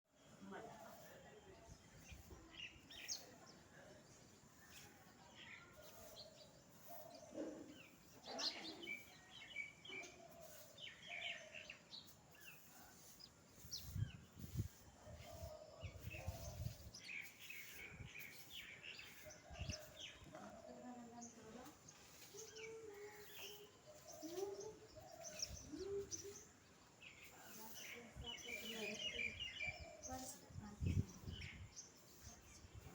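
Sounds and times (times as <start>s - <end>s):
faint birds chirping: 0.1s - 32.9s.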